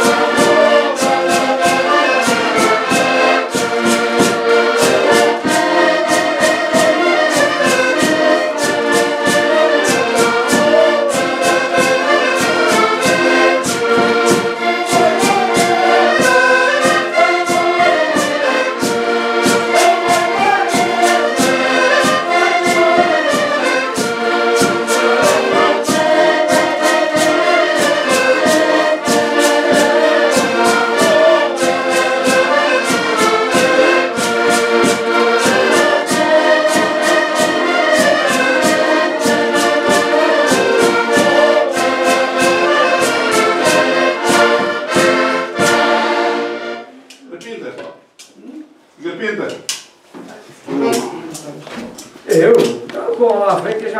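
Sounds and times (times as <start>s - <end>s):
button accordions playing: 0.0s - 47.1s.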